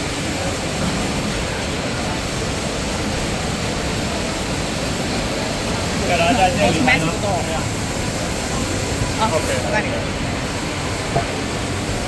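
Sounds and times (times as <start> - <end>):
faint distant voices: 0.0 - 12.0
machinery running: 0.0 - 12.0.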